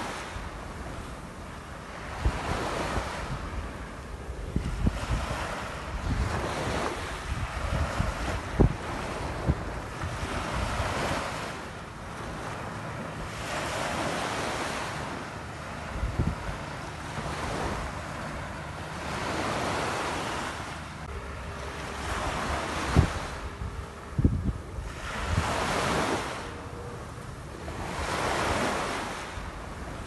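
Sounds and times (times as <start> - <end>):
wind on microphone: 0.0 - 21.3, 21.9 - 30.0
ocean surf breaking: 0.0 - 24.2, 24.8 - 30.0.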